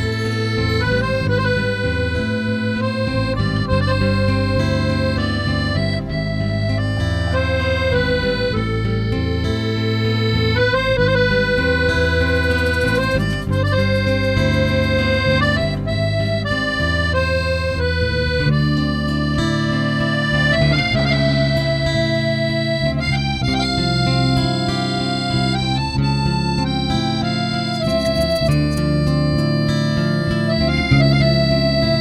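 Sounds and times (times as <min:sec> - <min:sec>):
instrumental music: 0:00.0 - 0:32.0.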